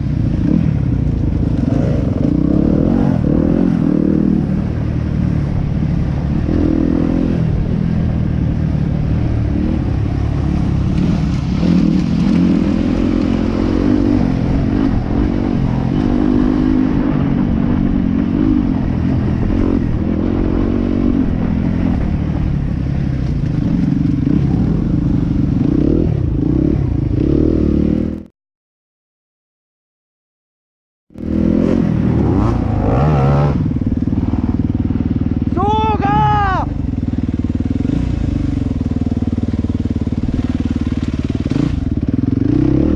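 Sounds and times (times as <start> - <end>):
motorcycle engine revving: 0.0 - 28.3, 31.1 - 42.9.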